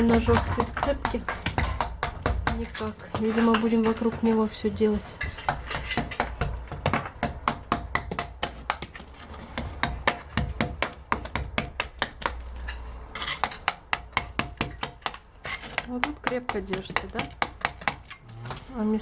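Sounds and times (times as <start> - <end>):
hand tools chipping plaster: 0.0 - 19.0.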